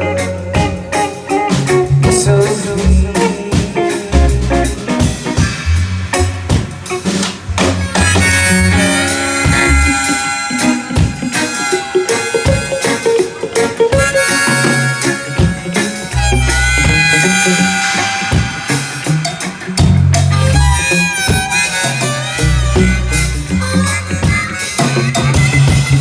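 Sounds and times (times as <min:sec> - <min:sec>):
deep bass line: 0:00.0 - 0:11.3, 0:14.6 - 0:26.0
bending lead melody: 0:00.0 - 0:26.0
drum kit: 0:00.0 - 0:26.0
reggae band playing: 0:00.0 - 0:26.0.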